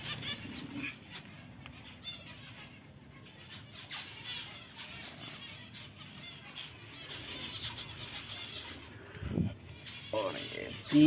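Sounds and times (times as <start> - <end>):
finches calling: 0.0 - 11.0.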